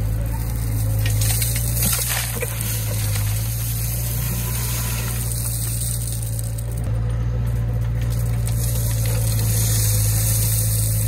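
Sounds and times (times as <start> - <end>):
crushed stone pouring into steel bed: 0.0 - 6.9, 7.5 - 11.0
diesel engines humming: 0.0 - 11.0.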